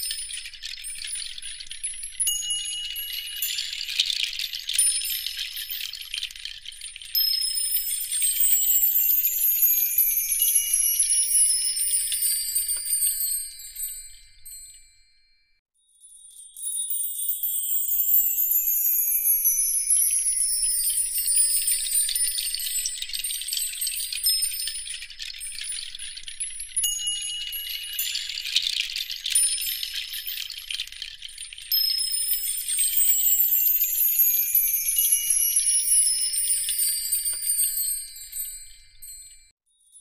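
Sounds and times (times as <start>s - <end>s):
tinkling wind chimes: 0.0s - 40.0s.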